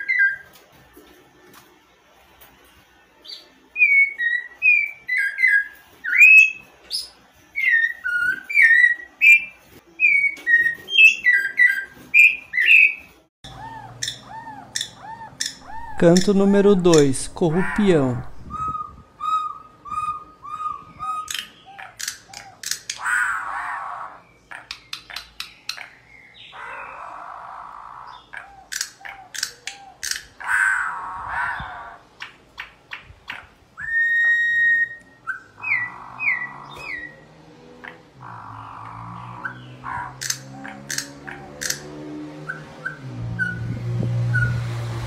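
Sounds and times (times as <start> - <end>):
birds singing whistled notes: 0.0 - 0.5, 3.2 - 41.8, 42.4 - 44.8.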